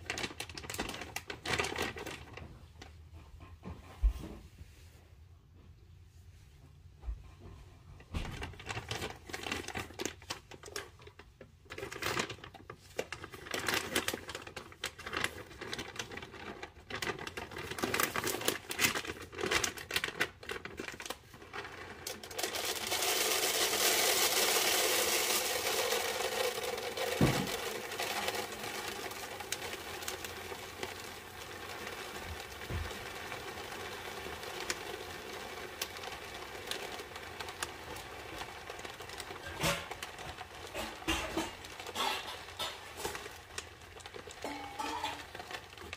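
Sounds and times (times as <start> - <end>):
dry kibble pouring: 0.0 - 2.6, 8.5 - 45.9
plastic bag crinkling: 0.0 - 3.0, 8.2 - 45.9.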